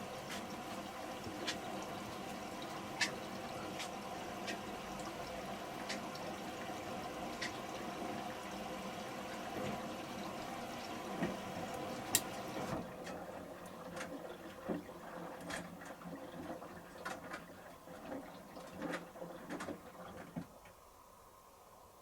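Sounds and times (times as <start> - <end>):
washing machine filling with water: 0.0 - 22.0.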